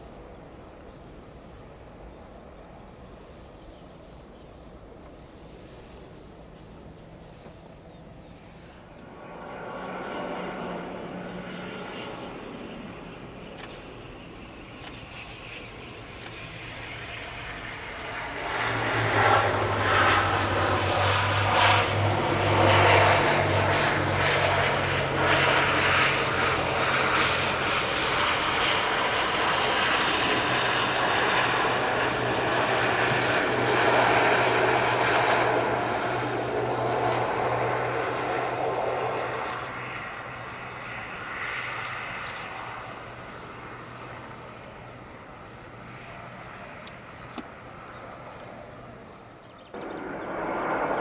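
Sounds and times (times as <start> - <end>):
turboprop airliner landing drone: 0.0 - 51.0.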